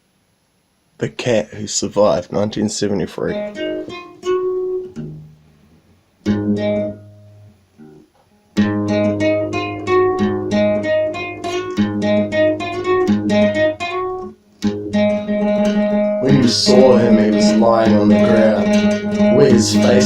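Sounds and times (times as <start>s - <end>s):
fingerpicked acoustic guitar: 3.3s - 20.0s.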